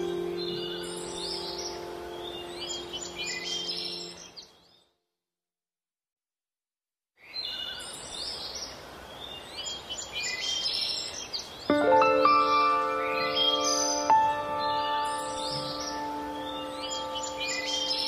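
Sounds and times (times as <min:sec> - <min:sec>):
steady outdoor hiss: 0:00.0 - 0:04.6, 0:07.2 - 0:18.0
birds chirping: 0:00.0 - 0:05.0, 0:07.2 - 0:18.0.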